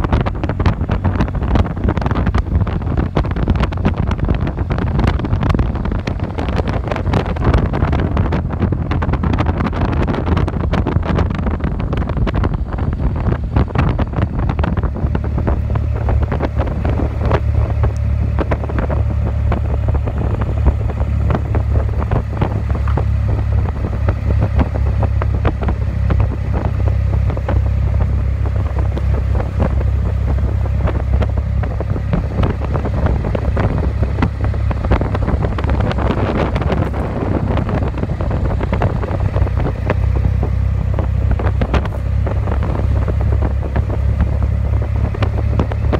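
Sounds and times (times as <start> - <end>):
road and engine rumble: 0.0 - 45.9
wind buffeting microphone: 0.0 - 45.9.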